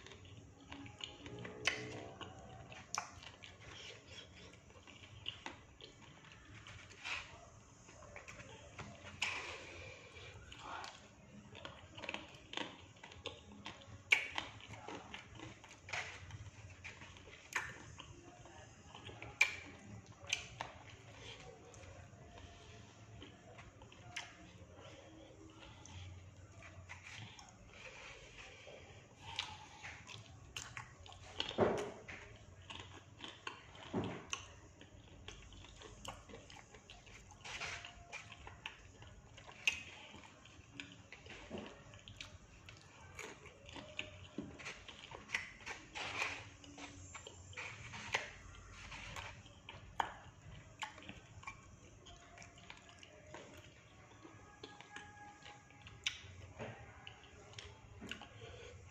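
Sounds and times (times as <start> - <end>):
chewing and crunching food: 0.0 - 58.9.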